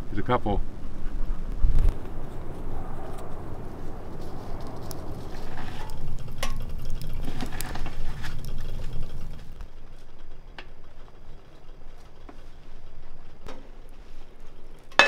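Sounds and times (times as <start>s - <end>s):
low rumble: 0.0s - 15.0s
wood fire crackling: 0.0s - 15.0s.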